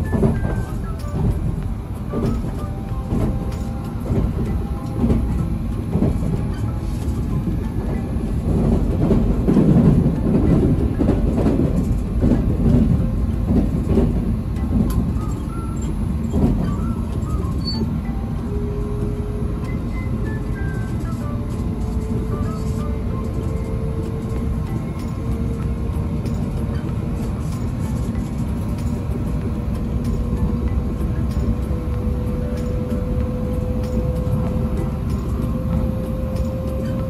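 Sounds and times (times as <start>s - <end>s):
train rumble from inside carriage: 0.0s - 37.0s.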